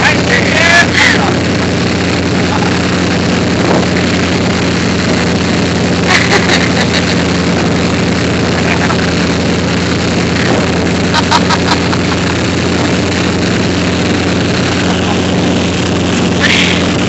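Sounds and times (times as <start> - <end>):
churning wake water: 0.0 - 17.0
motorboat engine running: 0.0 - 17.0.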